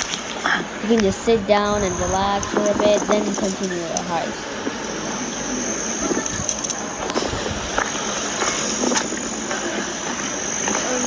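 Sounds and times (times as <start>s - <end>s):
faint distant voices: 0.0s - 11.0s
high insect trill: 0.0s - 11.0s
steady rushing noise: 0.0s - 11.0s.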